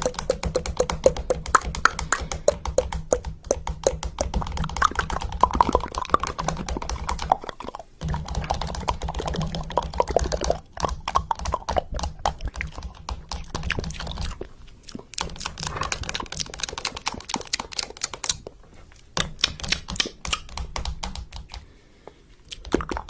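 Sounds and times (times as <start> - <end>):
rapid irregular clicking: 0.0 - 14.5, 15.1 - 18.5, 19.2 - 21.7.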